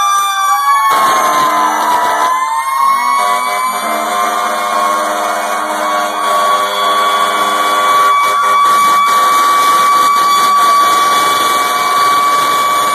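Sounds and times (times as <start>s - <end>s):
fire engine siren whine: 0.0s - 12.9s.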